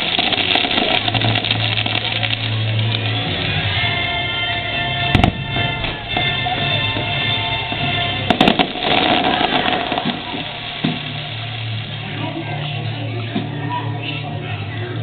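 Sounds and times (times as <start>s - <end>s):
fireworks bangs: 0.0s - 13.6s.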